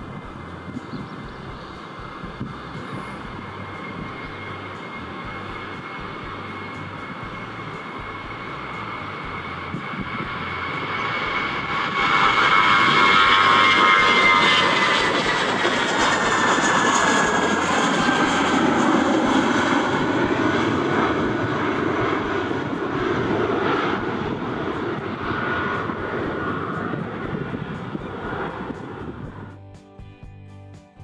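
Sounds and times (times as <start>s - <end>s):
jet roar: 0.0s - 29.6s
jet engine whine: 0.0s - 30.0s.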